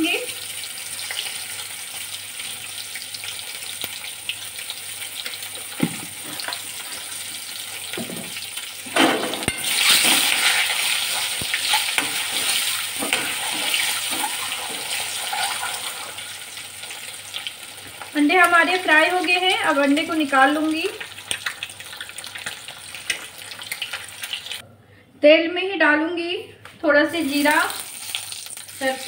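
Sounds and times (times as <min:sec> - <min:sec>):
eggs sizzling in hot oil: 0:00.0 - 0:24.6, 0:27.1 - 0:29.0.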